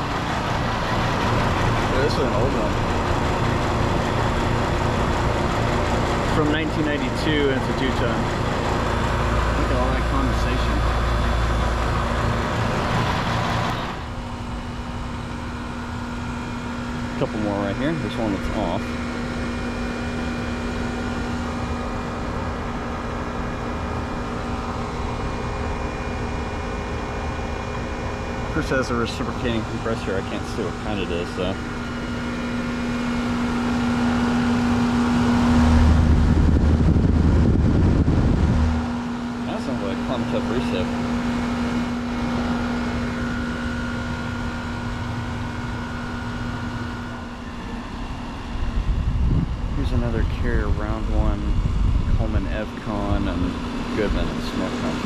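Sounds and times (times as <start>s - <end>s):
compressor humming: 0.0s - 55.0s
condenser fan whooshing: 0.0s - 55.0s
high steady whine: 0.0s - 55.0s.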